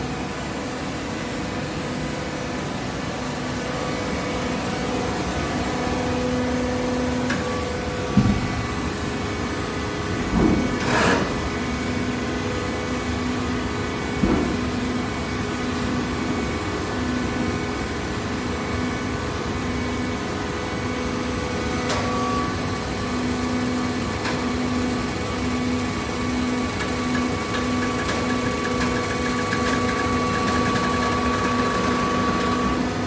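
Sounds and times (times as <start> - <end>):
electric motor and pump humming: 0.0 - 33.0.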